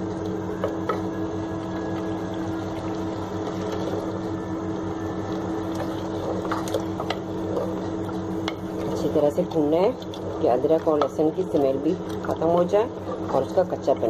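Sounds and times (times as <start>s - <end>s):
chicken frying in oil: 0.0s - 14.0s
steady low hum: 0.0s - 14.0s.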